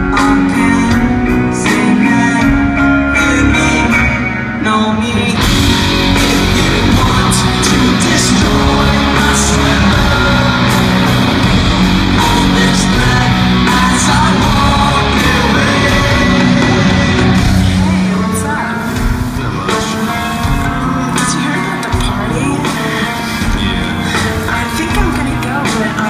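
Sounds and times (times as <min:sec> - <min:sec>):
loud rock music: 0:00.0 - 0:26.0
person singing and shouting: 0:00.0 - 0:26.0.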